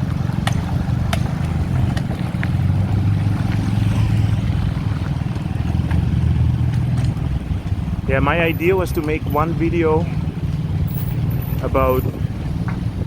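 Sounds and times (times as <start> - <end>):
street noise: 0.0 - 13.0
wind buffeting microphone: 0.0 - 13.0.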